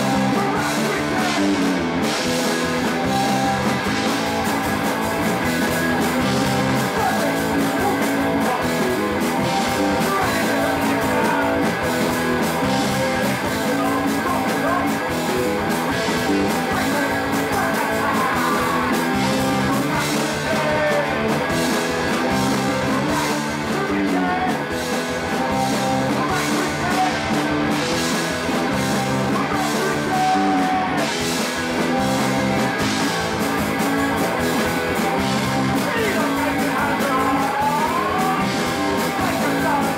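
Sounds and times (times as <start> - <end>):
person singing: 0.0 - 34.3, 34.9 - 39.9
drum kit: 0.0 - 39.9
electric guitar: 0.0 - 39.9.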